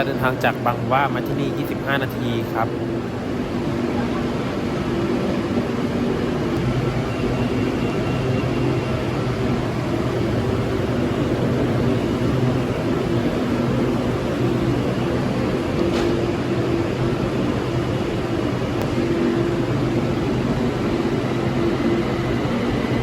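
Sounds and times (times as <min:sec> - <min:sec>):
electric train humming: 0:00.0 - 0:23.0.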